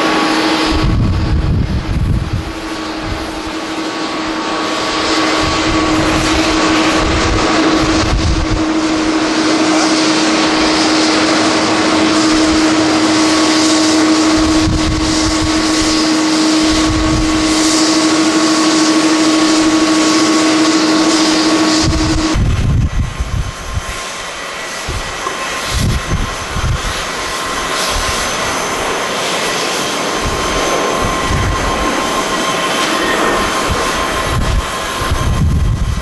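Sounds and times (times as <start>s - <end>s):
jet engines roaring at takeoff: 0.0s - 36.0s
wind buffeting microphone: 0.0s - 36.0s.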